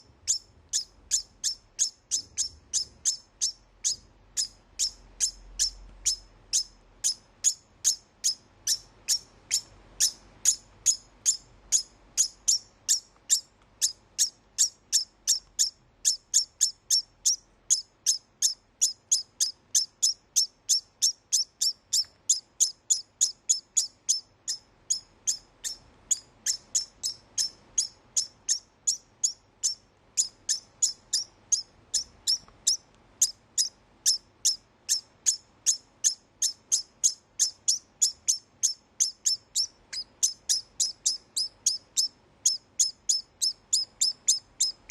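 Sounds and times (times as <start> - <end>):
rodent high-pitched chirps: 0.0 - 44.9.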